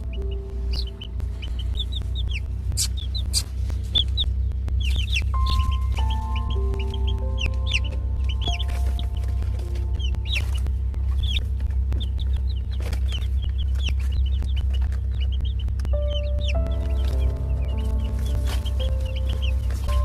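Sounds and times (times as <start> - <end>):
chickens clucking: 0.0 - 20.0
soft background music: 0.0 - 20.0
steady low hum: 0.0 - 20.0.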